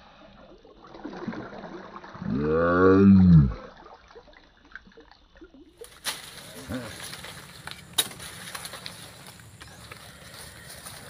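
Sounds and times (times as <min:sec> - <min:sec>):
water sloshing and splashing: 0:00.5 - 0:02.3, 0:03.5 - 0:11.0.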